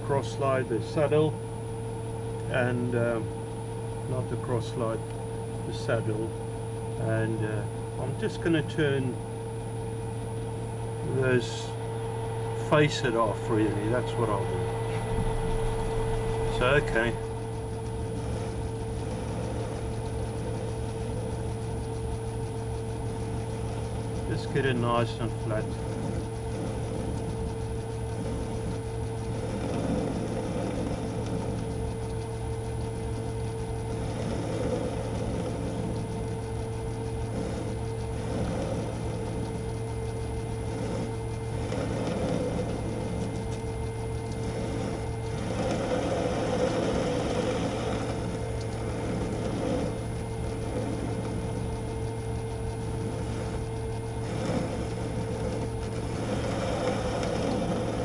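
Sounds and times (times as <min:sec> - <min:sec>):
metal lathe motor hum: 0:00.0 - 0:58.0
lathe tool scraping metal: 0:04.1 - 0:58.0.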